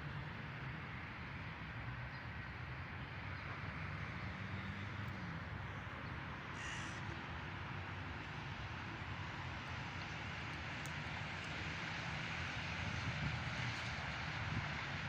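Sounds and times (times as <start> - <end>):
low traffic hum: 0.0 - 15.0.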